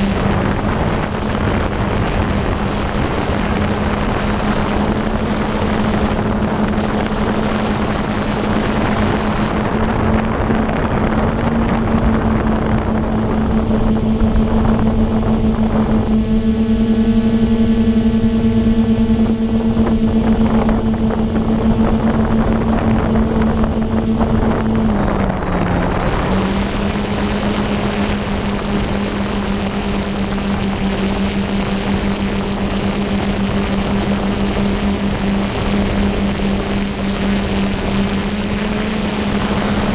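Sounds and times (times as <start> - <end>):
drone motors humming: 0.0 - 39.9
wind noise: 0.0 - 39.9.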